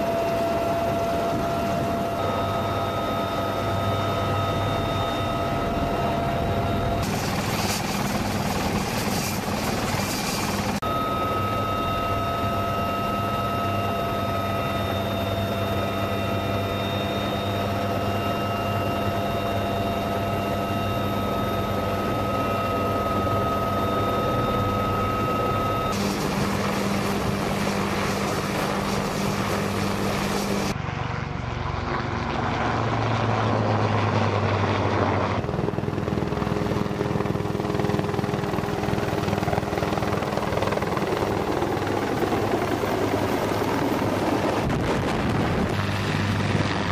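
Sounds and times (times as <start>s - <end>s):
helicopter rotor noise: 0.0s - 46.9s
helicopter turbine whine: 0.0s - 46.9s.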